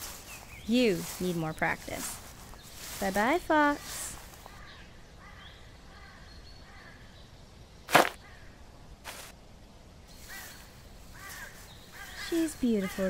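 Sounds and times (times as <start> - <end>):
birds chirping: 0.0 - 9.3, 10.0 - 13.0
outdoor ambience: 0.0 - 13.0.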